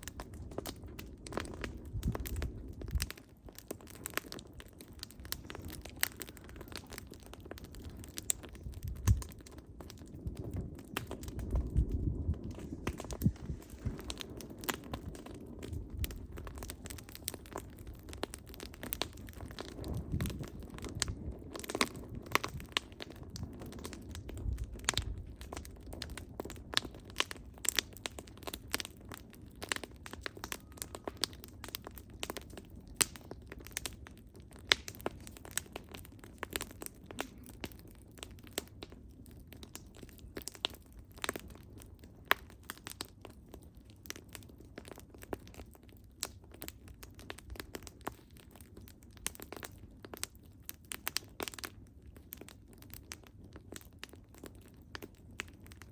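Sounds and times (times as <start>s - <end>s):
firewood crackling and popping: 0.0s - 55.9s
low rumble of flames: 0.0s - 55.9s.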